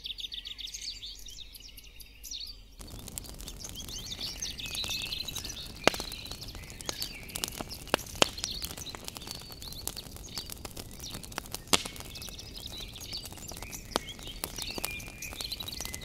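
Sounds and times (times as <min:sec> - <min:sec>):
birds chirping: 0:00.0 - 0:16.0
wood fire crackling: 0:02.8 - 0:16.0.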